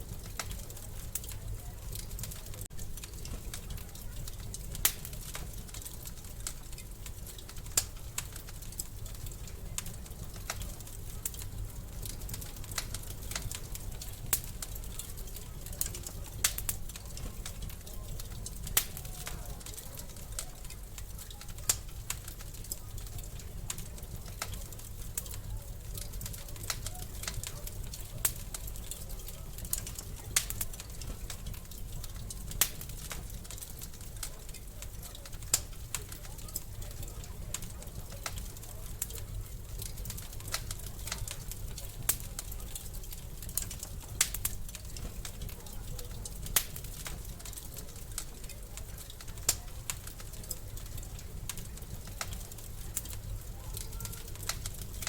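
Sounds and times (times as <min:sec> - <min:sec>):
low rumble of flames: 0:00.0 - 0:55.0
wood fire crackling: 0:00.0 - 0:55.0.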